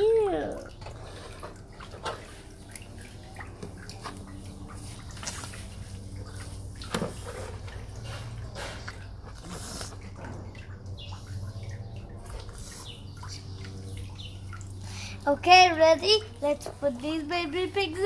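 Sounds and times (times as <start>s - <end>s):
wet mud drips and clicks: 0.3s - 7.0s, 7.6s - 16.8s.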